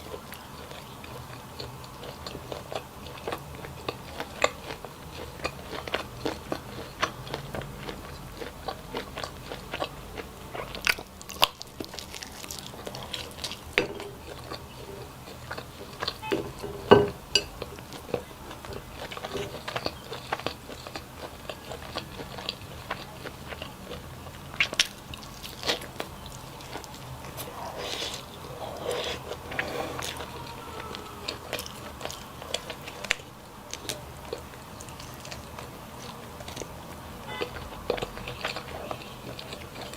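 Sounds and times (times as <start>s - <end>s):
person chewing and crunching: 0.0s - 39.9s.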